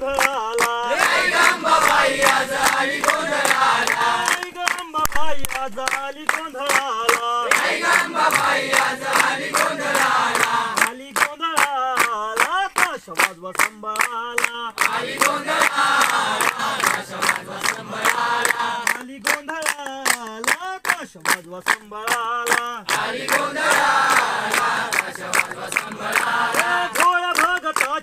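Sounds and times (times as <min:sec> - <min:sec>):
group singing in chorus: 0:00.0 - 0:12.5, 0:13.2 - 0:19.5, 0:21.7 - 0:27.4
people clapping in rhythm: 0:00.0 - 0:28.0.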